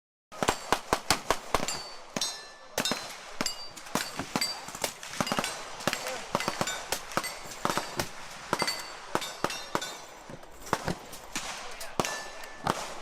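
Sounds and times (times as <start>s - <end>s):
gunshots: 0.3s - 13.0s.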